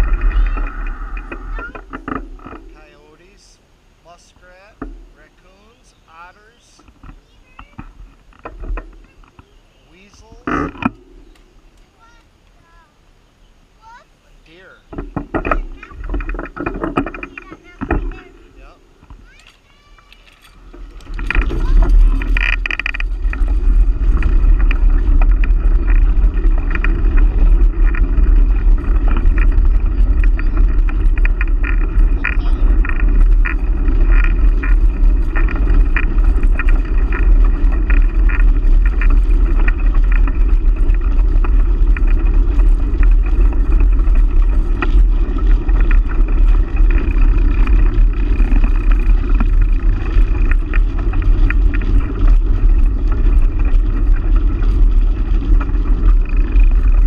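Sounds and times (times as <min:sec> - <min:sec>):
wind buffeting microphone: 0:00.0 - 0:03.9, 0:14.9 - 0:57.0
bicycle tyre rumble on asphalt: 0:00.0 - 0:57.0.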